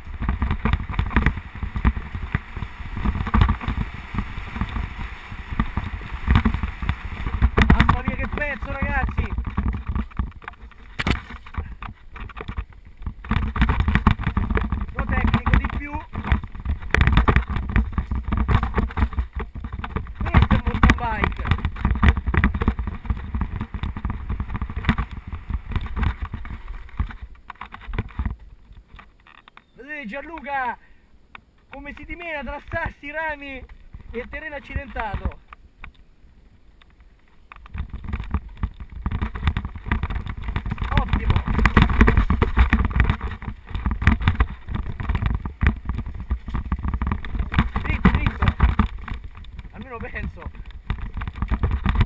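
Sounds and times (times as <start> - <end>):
wind on microphone: 0.0 - 29.2, 37.3 - 52.0
bike rattling and knocking: 0.0 - 30.6, 31.4 - 36.0, 36.8 - 52.0
tyres rolling over dirt and stones: 0.0 - 30.8, 31.5 - 35.6, 36.4 - 52.0.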